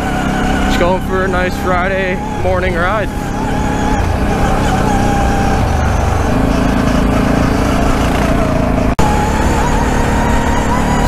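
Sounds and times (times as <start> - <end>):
quad bike engine running: 0.0 - 11.0
trail noise: 0.0 - 11.0.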